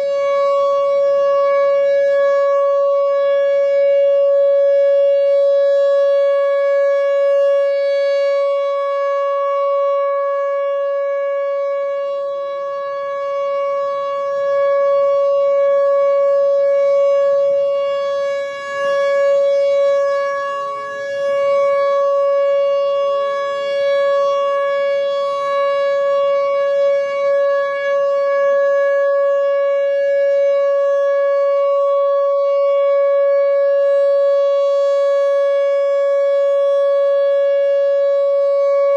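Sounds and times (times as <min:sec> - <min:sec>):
electronic warning siren steady tone: 0:00.0 - 0:38.9.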